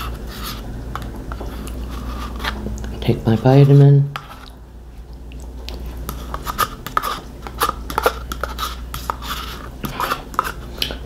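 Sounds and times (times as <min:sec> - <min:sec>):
person chewing: 0:00.0 - 0:03.0, 0:04.2 - 0:11.0.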